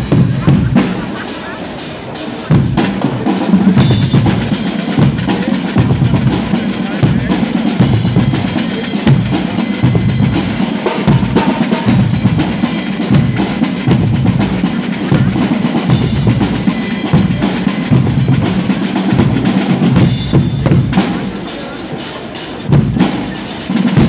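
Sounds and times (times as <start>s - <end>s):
bass drum and snare drums: 0.0s - 24.0s.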